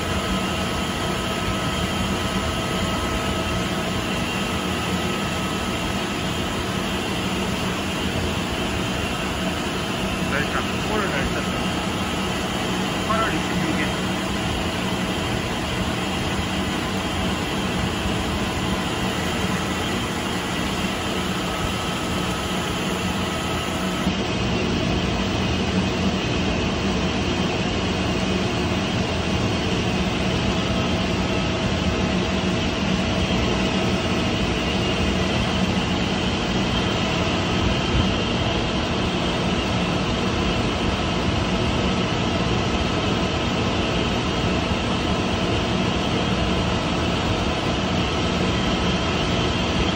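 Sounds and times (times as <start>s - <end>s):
pump machinery humming: 0.0s - 24.2s, 26.0s - 49.9s.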